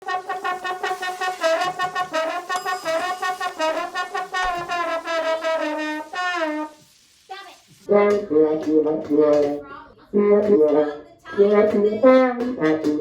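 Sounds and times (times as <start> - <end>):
trombone sliding notes: 0.0 - 6.8, 7.9 - 9.6, 10.2 - 13.0.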